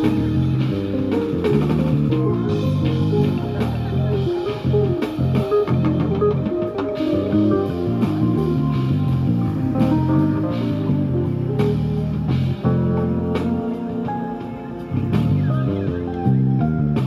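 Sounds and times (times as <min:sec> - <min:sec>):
digital keyboard tune with beat: 0:00.0 - 0:17.0.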